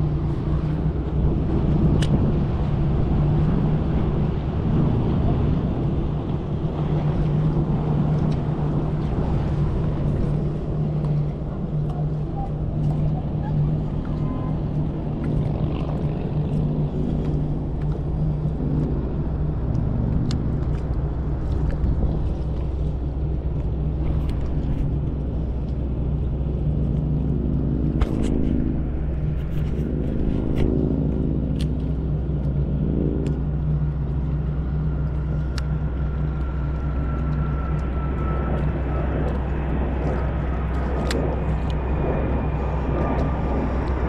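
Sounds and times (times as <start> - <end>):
faint rising whine: 0.0 - 44.0
low engine hum: 0.0 - 44.0.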